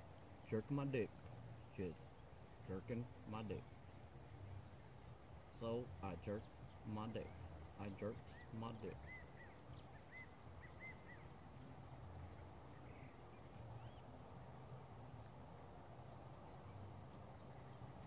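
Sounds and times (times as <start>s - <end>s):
pond ambience: 0.0s - 18.0s.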